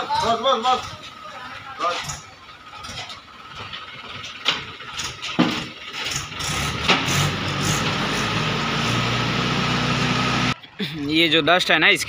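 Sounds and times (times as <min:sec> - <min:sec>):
tractor engine running: 0:00.0 - 0:11.7.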